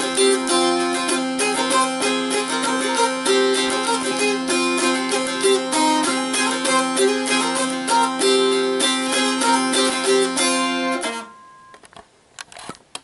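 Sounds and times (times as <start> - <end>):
plucked dulcimer tune with drone: 0.0 - 11.7.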